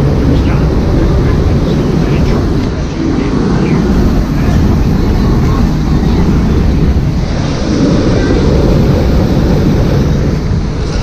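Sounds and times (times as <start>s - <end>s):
churning water rushing: 0.0s - 11.0s
low rumble on microphone: 0.0s - 11.0s.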